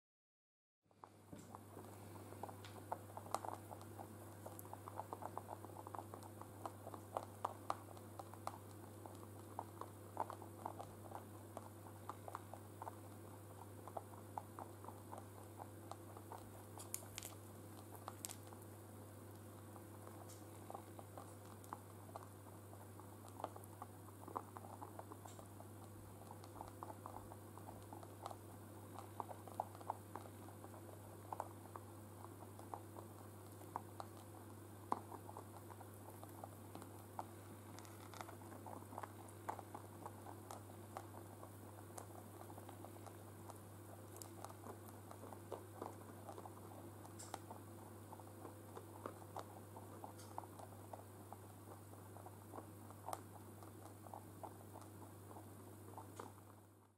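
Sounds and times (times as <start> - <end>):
rabbits chewing hay: 0.9 - 56.9
steady low hum: 0.9 - 56.9.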